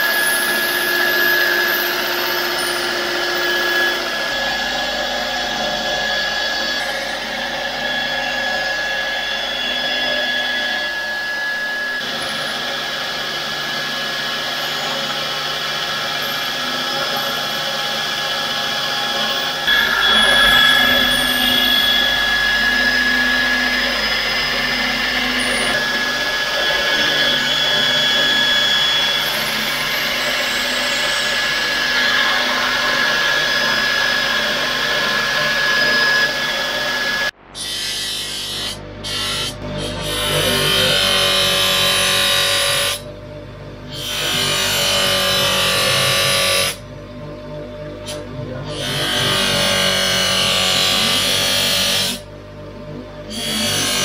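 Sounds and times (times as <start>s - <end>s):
belt grinder grinding steel: 0.0s - 43.0s, 43.9s - 46.8s, 48.7s - 52.2s.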